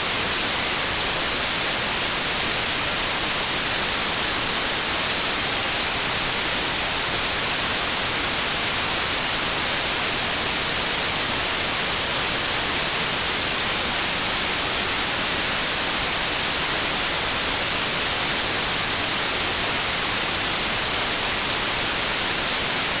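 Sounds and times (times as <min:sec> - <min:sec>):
white noise hiss: 0:00.0 - 0:23.0.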